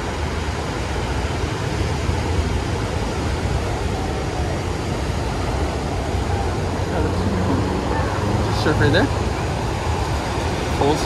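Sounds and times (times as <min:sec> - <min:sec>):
ocean surf: 0:00.0 - 0:11.0
wind on microphone: 0:00.0 - 0:11.0
low rumble: 0:00.9 - 0:11.0.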